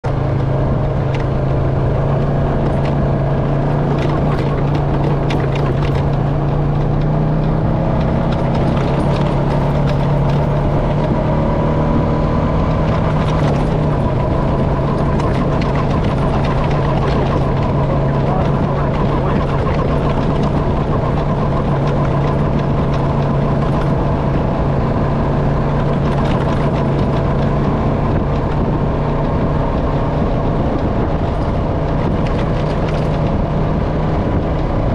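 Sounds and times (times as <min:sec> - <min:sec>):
quad bike engine running: 0:00.1 - 0:34.9.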